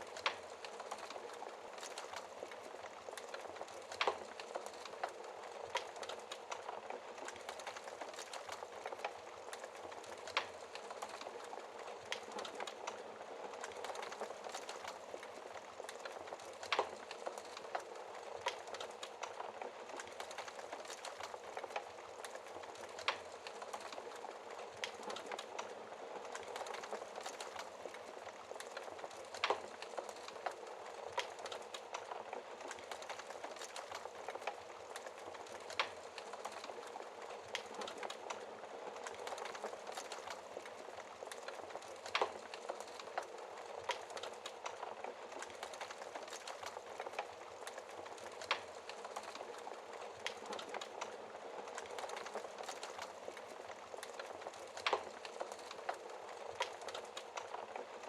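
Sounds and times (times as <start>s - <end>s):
fireplace logs crackling: 0.0s - 58.0s.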